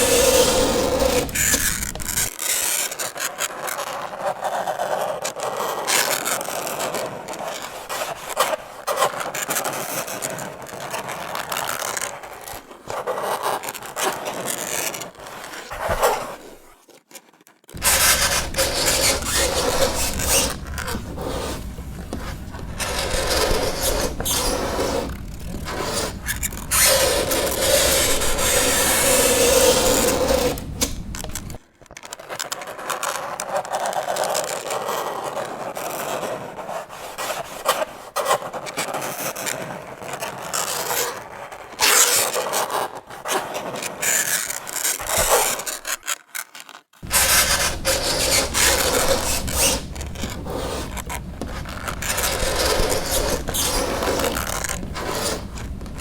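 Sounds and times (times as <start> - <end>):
fingernails scraping a chalkboard: 0.0 - 2.3, 6.5 - 16.7, 17.7 - 31.6, 33.5 - 46.0, 47.0 - 56.0.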